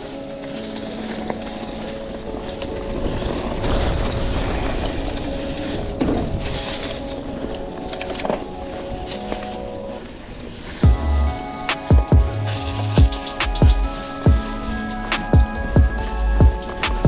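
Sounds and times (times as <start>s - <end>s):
background music: 0.0s - 17.0s
bike tyres rumbling on dirt: 0.0s - 17.0s
wind: 0.0s - 17.0s.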